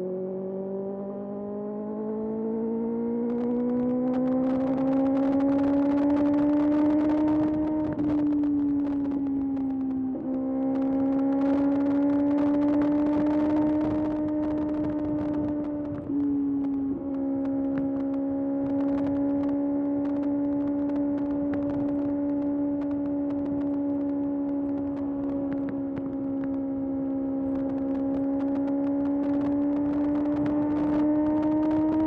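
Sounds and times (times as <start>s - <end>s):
motorcycle engine at high revs: 0.0s - 32.0s.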